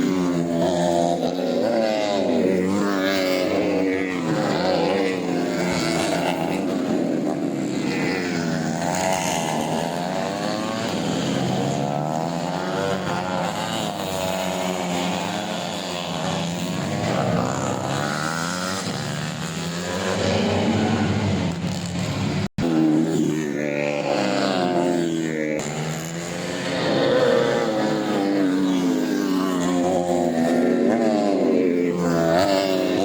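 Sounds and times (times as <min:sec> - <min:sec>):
racing motorcycle engines revving: 0:00.0 - 0:33.0.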